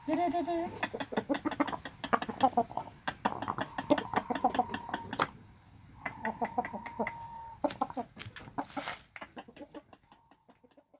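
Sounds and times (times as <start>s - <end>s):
chicken clucking: 0.0s - 10.9s
faint steady tone: 0.0s - 10.9s.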